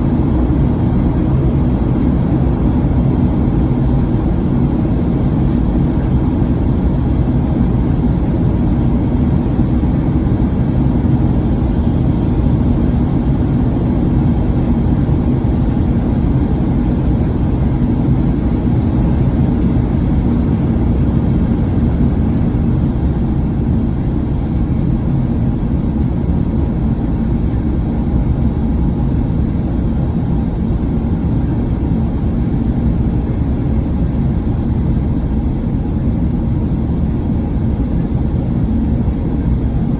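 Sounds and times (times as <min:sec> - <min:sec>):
jet engines droning: 0:00.0 - 0:39.9
rushing airflow in cabin: 0:00.0 - 0:39.9.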